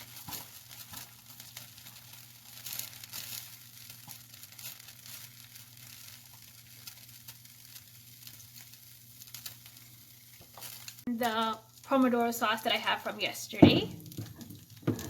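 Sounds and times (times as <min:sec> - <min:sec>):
pasta sizzling in a hot pan: 0:00.0 - 0:15.0.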